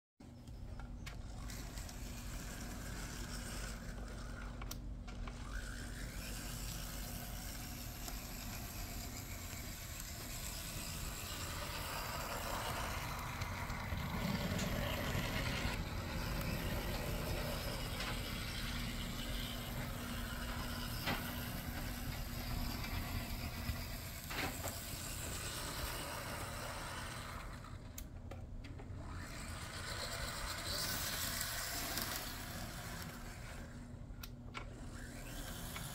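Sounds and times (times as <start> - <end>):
model train motor whirring: 0.7 - 35.9.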